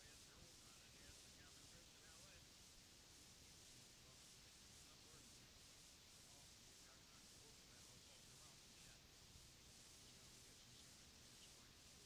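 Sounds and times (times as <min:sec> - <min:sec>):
cassette tape hiss: 0:00.0 - 0:12.0.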